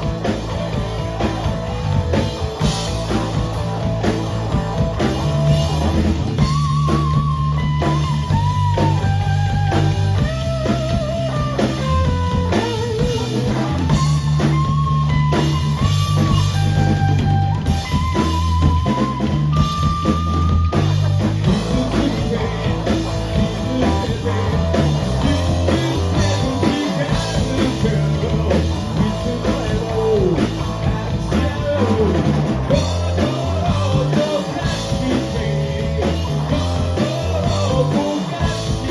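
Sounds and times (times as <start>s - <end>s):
bass guitar: 0.0s - 38.9s
drum kit: 0.0s - 38.9s
electric guitar lead: 0.0s - 38.9s.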